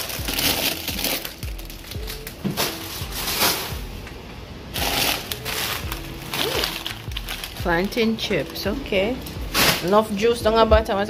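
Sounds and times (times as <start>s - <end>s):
music with deep bass thumps: 0.0s - 4.2s, 4.8s - 11.0s.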